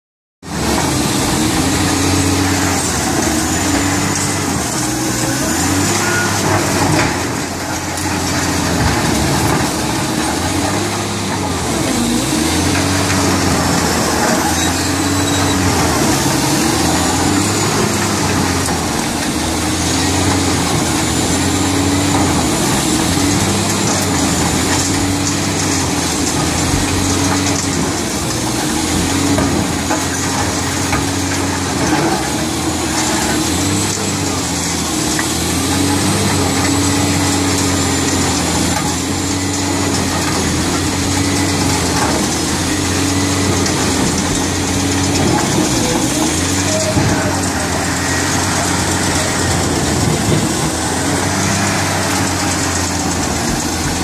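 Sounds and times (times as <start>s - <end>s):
grinding clatter of broken concrete: 0.4s - 54.0s
heavy diesel engine drone: 0.4s - 54.0s.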